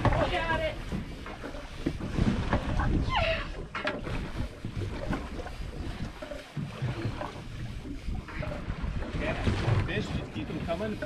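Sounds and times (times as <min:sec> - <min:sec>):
water against boat hull: 0:00.0 - 0:11.0
wind buffeting microphone: 0:00.0 - 0:11.0.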